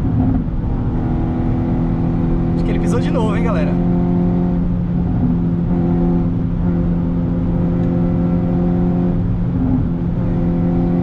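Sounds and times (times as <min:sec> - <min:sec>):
car engine from inside cabin: 0:00.0 - 0:11.0.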